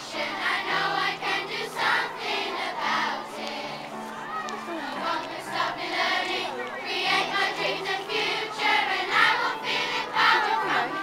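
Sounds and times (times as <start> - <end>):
children singing in unison: 0.0 - 4.0, 4.9 - 11.0.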